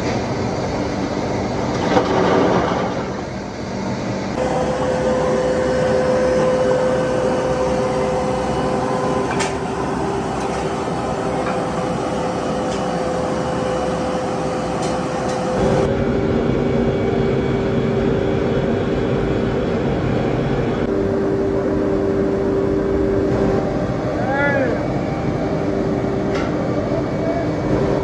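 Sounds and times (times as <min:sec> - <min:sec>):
air blower drone: 0:00.0 - 0:28.0.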